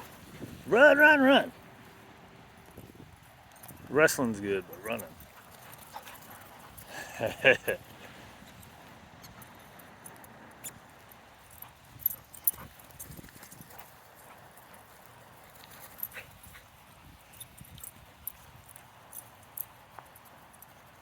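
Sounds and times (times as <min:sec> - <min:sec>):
dogs' paws tapping and clicking: 0:01.6 - 0:21.0.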